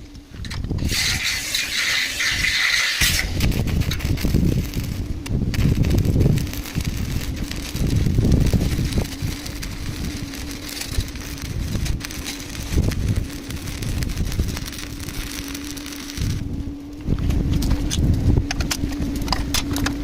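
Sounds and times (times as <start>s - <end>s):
low rumbles: 0.0s - 20.0s
steady hum: 0.0s - 20.0s
welding arc crackling and hissing: 0.0s - 20.0s.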